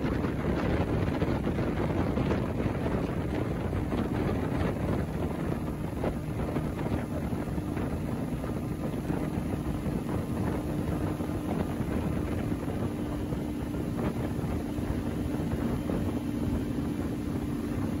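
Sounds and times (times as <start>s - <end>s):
speedboat engine humming: 0.0s - 18.0s
water rushing past hull: 0.0s - 18.0s
wind buffeting microphone: 0.0s - 18.0s.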